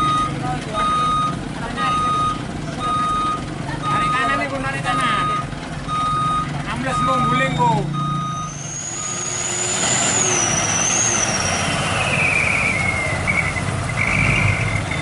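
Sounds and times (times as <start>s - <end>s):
truck engine rumble: 0.0s - 15.0s
truck squealing: 0.0s - 15.0s.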